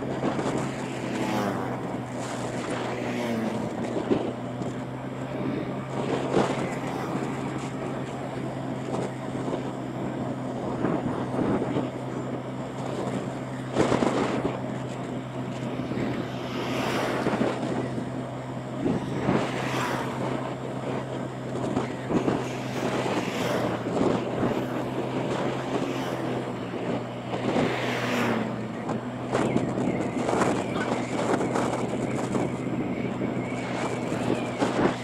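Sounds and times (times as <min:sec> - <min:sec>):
motorbike engine hum: 0:00.0 - 0:35.0
wind noise on microphone: 0:00.0 - 0:35.0.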